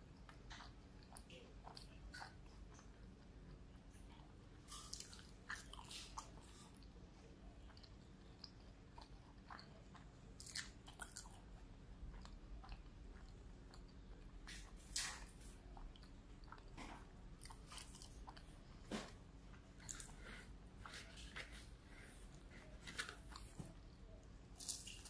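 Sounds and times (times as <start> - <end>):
person chewing crispy food: 0.1 - 25.0.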